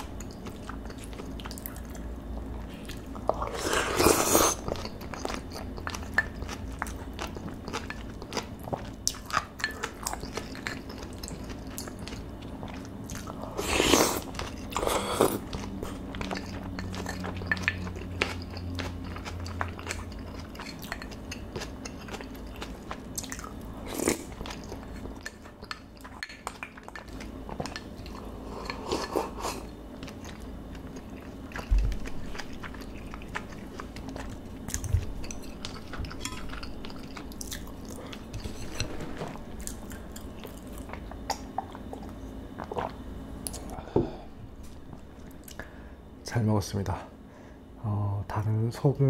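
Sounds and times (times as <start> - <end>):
person chewing food: 0.0 - 45.8.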